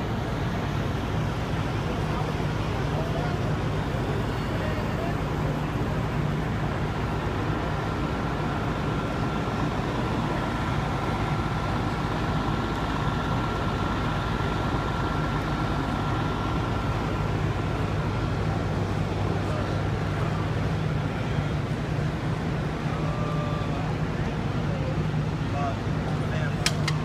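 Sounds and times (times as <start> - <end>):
fire truck engines running: 0.0 - 27.0
thin steady whine: 0.0 - 27.0.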